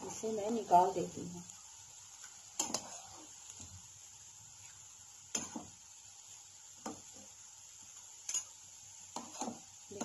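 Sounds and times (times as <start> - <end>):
frying oil hissing: 0.0 - 10.0.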